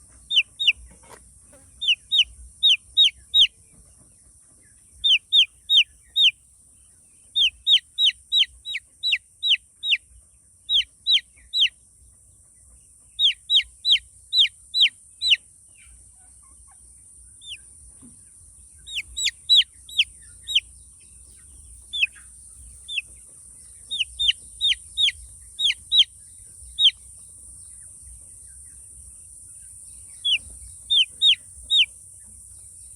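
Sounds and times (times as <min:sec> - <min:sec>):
chicks peeping: 0:00.0 - 0:32.9.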